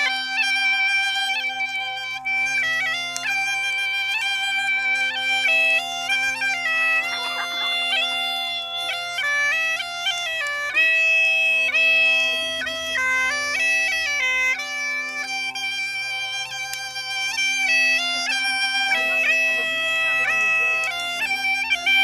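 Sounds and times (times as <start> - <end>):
bagpipe melody over drones: 0.0 - 22.0.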